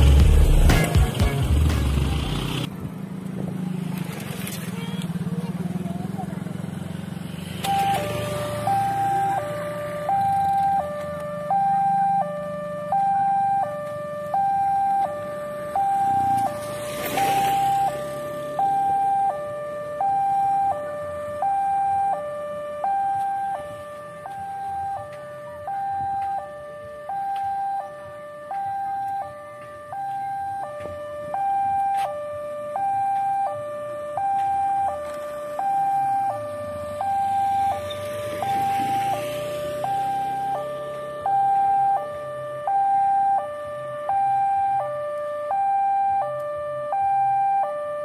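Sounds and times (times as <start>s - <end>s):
two-tone warning siren: 6.0s - 48.0s.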